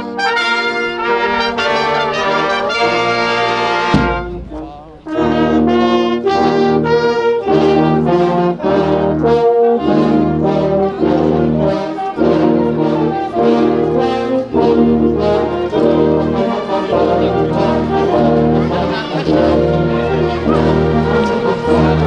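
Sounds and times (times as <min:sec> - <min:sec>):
trumpets and horns: 0:00.0 - 0:22.0.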